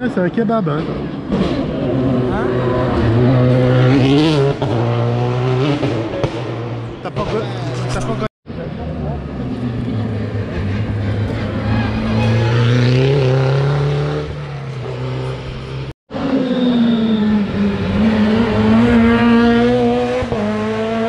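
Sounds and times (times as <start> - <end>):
rally car engine at high revs: 1.2 - 21.0.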